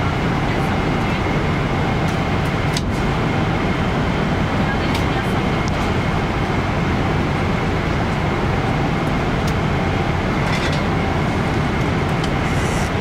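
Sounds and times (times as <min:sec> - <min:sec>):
airplane cabin noise: 0:00.0 - 0:13.0.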